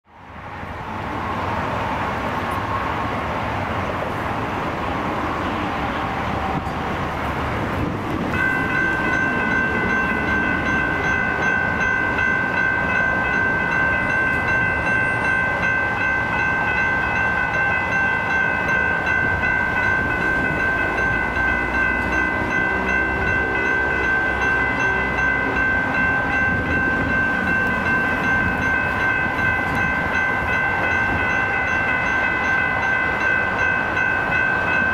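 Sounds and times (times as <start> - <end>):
road traffic hiss: 0.1 - 34.9
railroad crossing bell ringing: 5.4 - 34.9.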